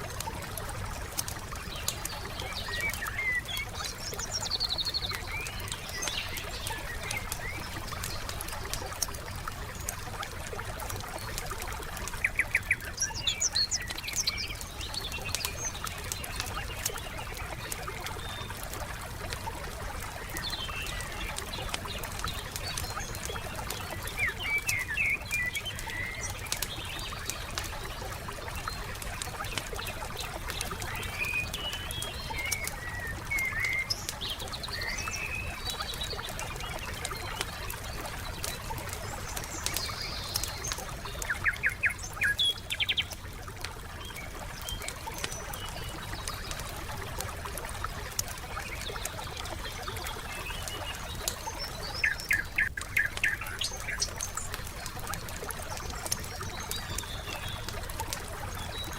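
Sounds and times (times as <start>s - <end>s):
songbirds chirping: 0.0s - 58.9s
wood fire crackling and popping: 0.0s - 58.9s.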